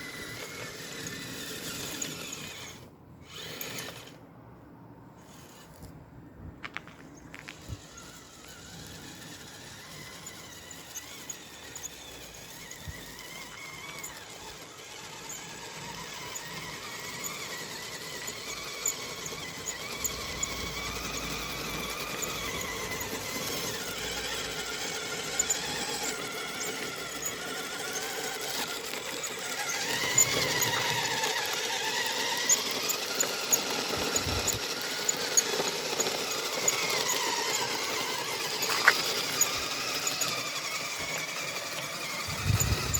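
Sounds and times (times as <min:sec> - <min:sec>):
electric motor whine: 0:00.0 - 0:04.2, 0:07.4 - 0:42.9.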